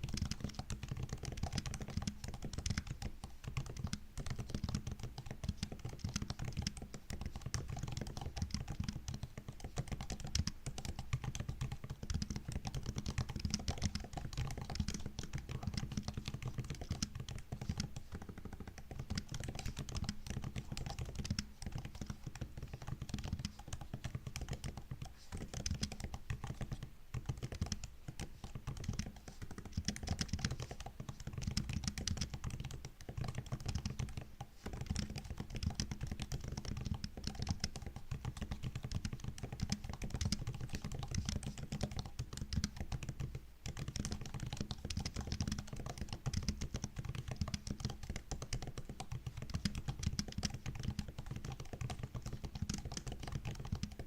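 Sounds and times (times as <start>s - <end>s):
typing on laptop keyboard: 0.0s - 54.0s.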